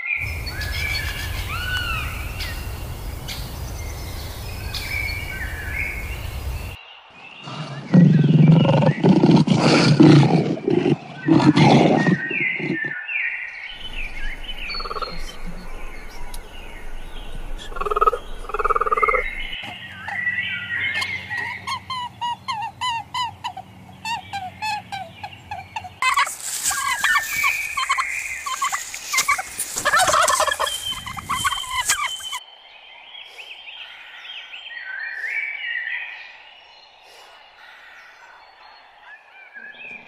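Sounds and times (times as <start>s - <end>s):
birds calling: 0.0s - 32.4s.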